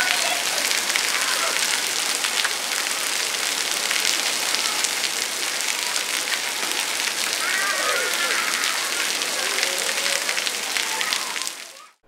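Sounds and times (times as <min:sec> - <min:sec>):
rain on surfaces: 0:00.0 - 0:12.0.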